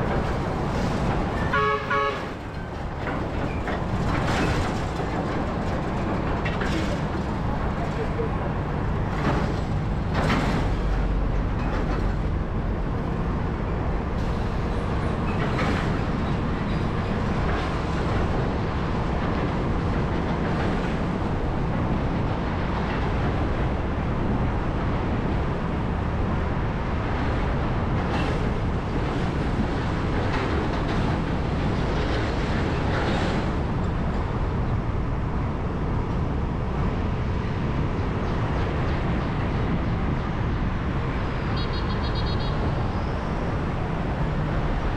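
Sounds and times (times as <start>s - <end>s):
city road traffic rumble: 0.0s - 44.9s.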